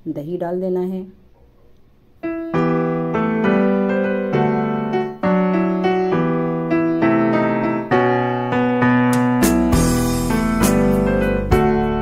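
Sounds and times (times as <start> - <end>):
piano chords: 2.2 - 12.0.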